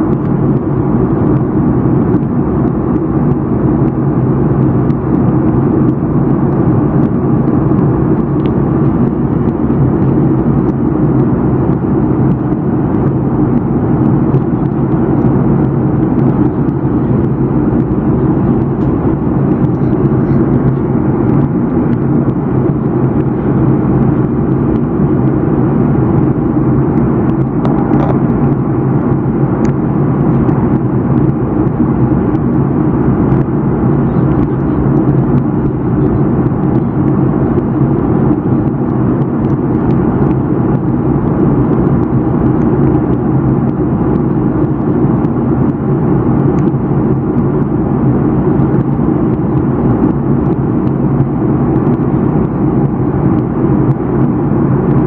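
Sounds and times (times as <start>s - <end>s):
jet airliner cabin drone: 0.0s - 55.0s.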